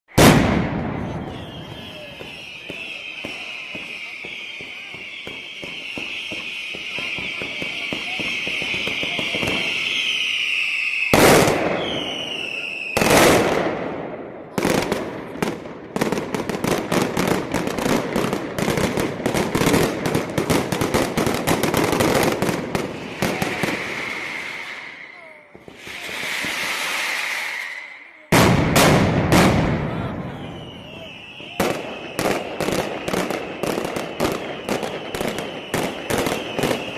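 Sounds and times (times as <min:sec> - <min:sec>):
crackling firecracker bangs: 0:00.1 - 0:36.9
firecracker whistling: 0:00.1 - 0:36.9
heavy firecracker bangs: 0:00.1 - 0:36.9.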